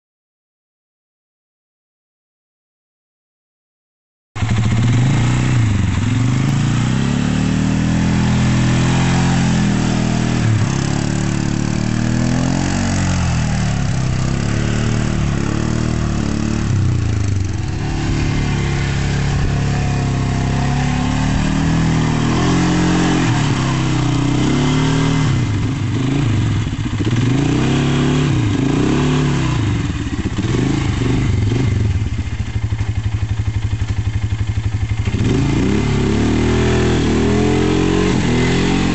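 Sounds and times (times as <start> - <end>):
quad engine revving: 4.4 - 38.9.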